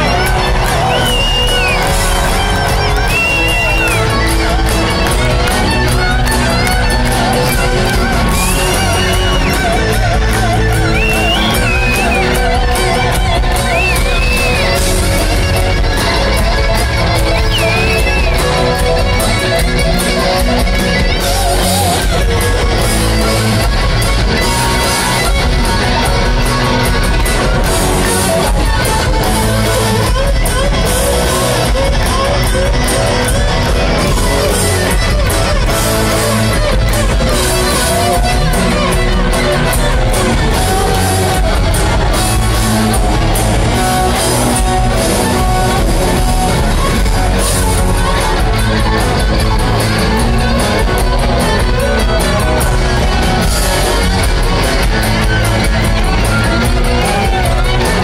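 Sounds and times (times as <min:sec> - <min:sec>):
bass guitar: 0:00.0 - 0:58.0
drums: 0:00.0 - 0:58.0
electric guitars playing lead lines: 0:00.0 - 0:58.0.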